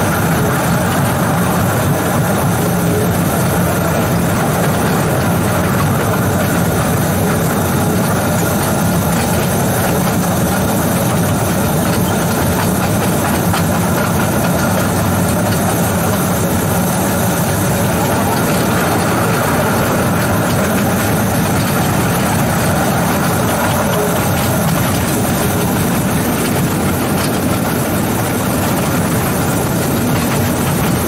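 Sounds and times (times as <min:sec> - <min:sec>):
electric locomotive running on rails: 0:00.0 - 0:31.0.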